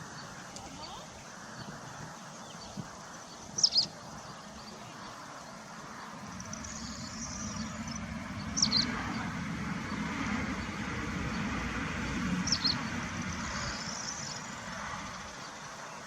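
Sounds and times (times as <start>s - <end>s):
steady outdoor rumble: 0.0s - 16.0s.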